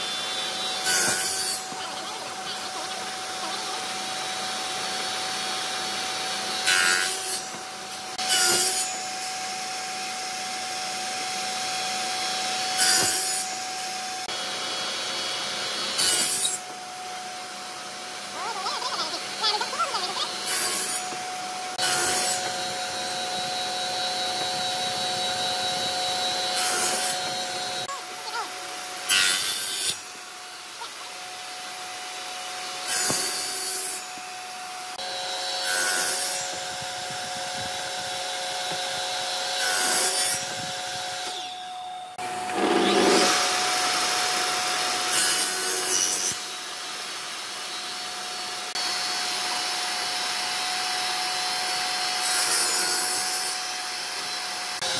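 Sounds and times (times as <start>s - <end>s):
saw blade cutting wood: 0.0s - 54.9s
table saw whining: 0.0s - 54.9s.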